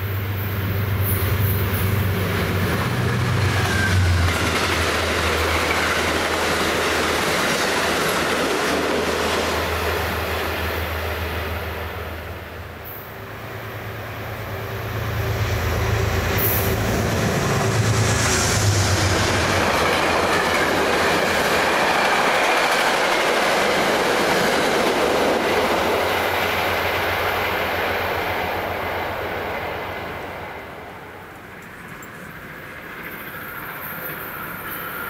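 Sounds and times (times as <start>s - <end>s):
locomotive drone: 0.0s - 35.0s
train wheels on rails: 0.0s - 35.0s.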